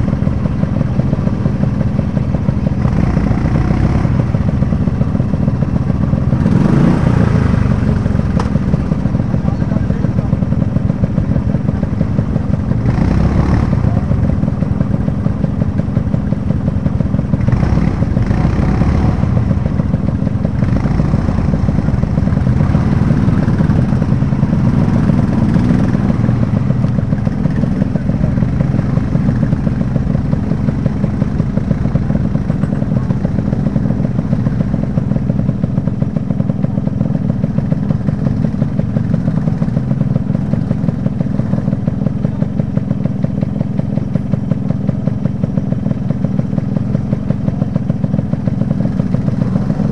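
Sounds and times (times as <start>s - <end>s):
motorcycle engine idling: 0.0s - 49.9s
motorcycle revving: 0.0s - 49.9s.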